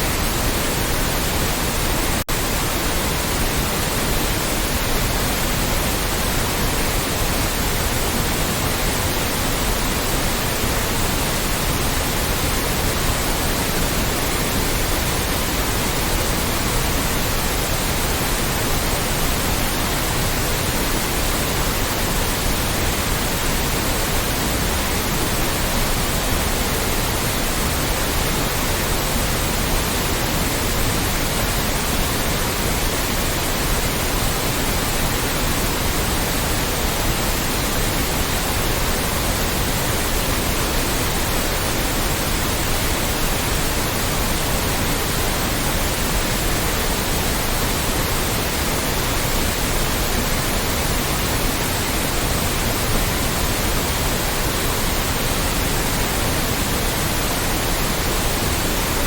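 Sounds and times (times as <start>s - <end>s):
loud white noise hiss: 0.0s - 59.0s.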